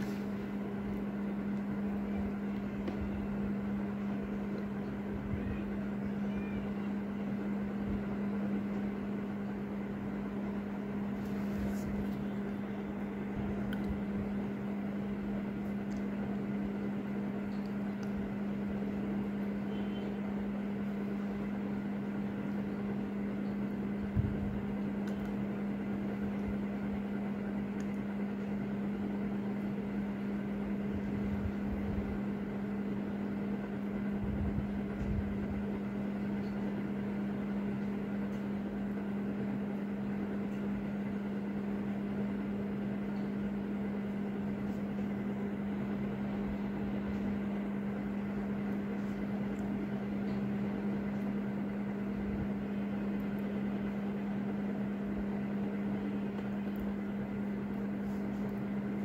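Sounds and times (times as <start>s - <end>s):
low motor hum: 0.0s - 59.0s.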